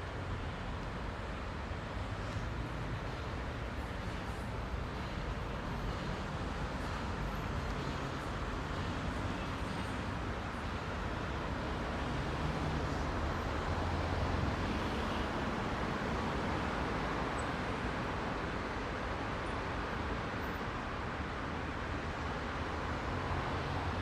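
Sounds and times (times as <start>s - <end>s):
car engines and tyre noise: 0.0s - 24.0s.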